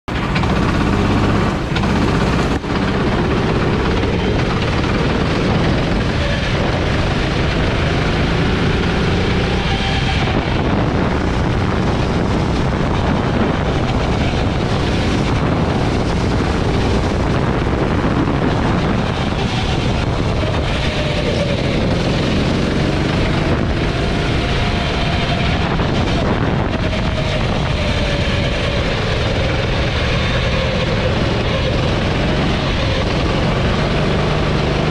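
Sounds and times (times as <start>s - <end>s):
go-kart engine revving: 0.1s - 34.9s.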